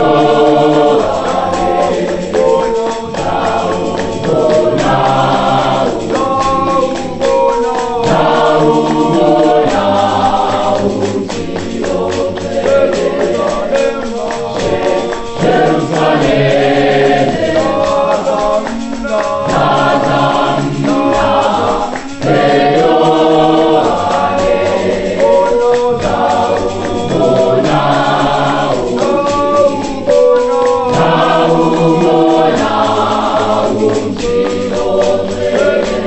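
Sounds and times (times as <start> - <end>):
choir singing gospel music: 0.0 - 36.0.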